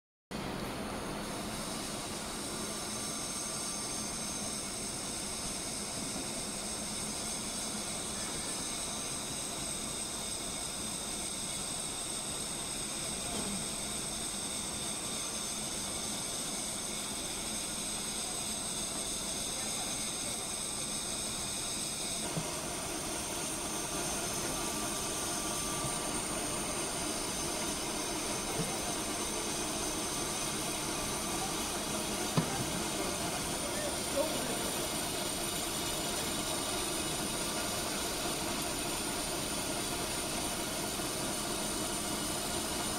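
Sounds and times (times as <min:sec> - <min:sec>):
high steady whine: 0:00.3 - 0:42.9
lathe running: 0:00.4 - 0:42.9.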